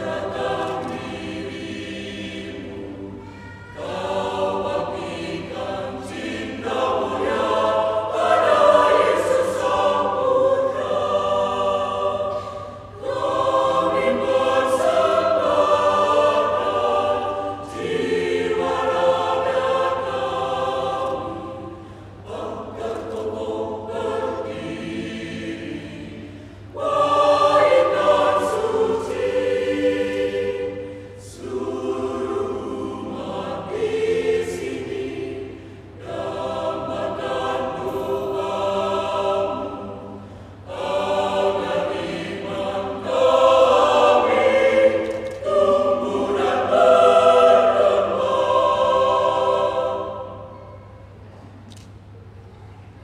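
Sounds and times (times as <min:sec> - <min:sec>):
mixed choir singing: 0:00.0 - 0:51.4.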